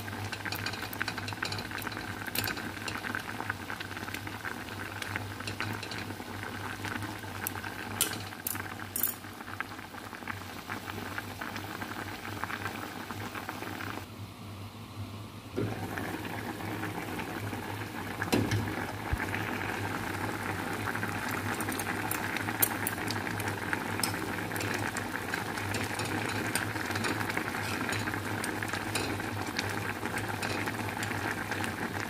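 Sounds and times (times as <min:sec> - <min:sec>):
pot boiling hard: 0:00.0 - 0:14.1, 0:15.6 - 0:32.0.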